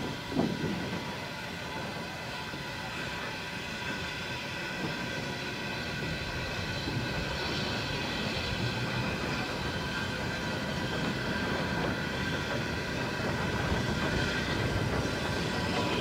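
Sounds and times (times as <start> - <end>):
steam locomotive rolling rumble: 0.0 - 16.0.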